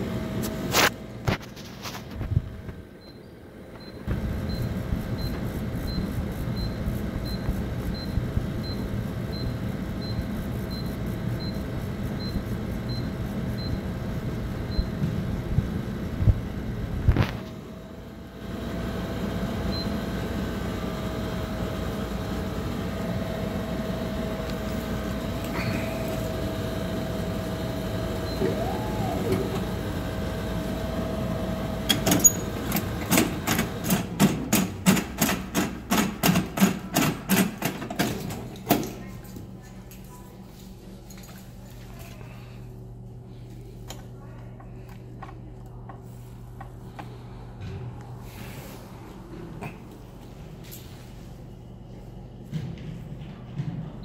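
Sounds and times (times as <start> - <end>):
vending machine humming: 0.0 - 54.0.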